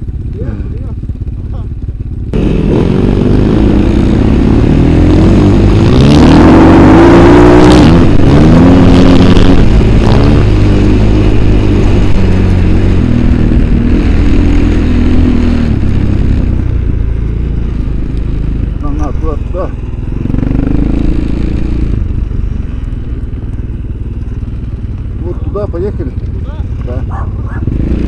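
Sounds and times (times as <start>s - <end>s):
vehicle engine revving: 2.3s - 28.0s.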